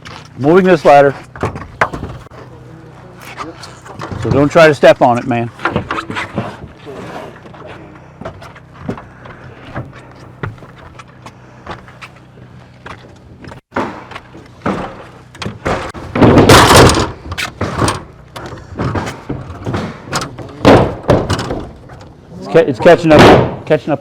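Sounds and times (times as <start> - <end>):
knocks and thumps of ladder handling: 0.0 - 2.4, 3.4 - 12.0, 12.8 - 24.0.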